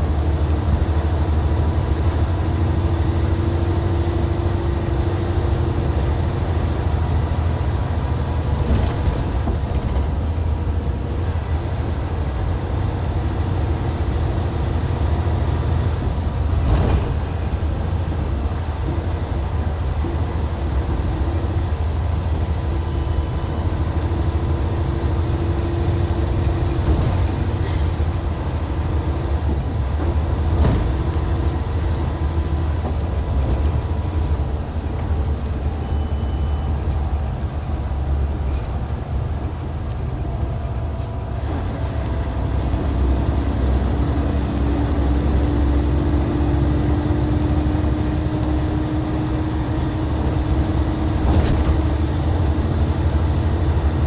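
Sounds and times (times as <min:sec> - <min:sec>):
diesel coach engine droning: 0:00.0 - 0:54.0.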